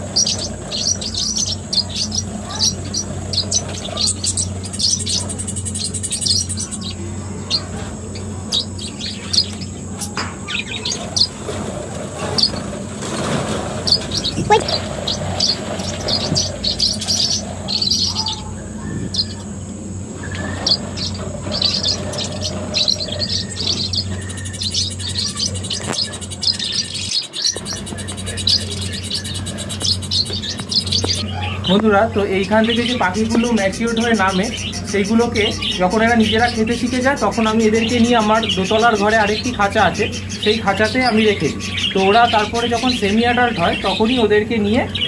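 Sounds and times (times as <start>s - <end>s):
budgerigars chirping: 0.0s - 45.0s
steady low hum: 0.0s - 45.0s.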